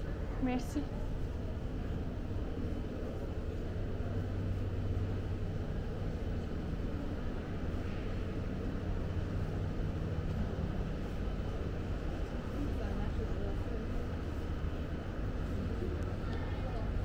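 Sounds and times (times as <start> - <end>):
shopping mall ambience drone: 0.0 - 17.0.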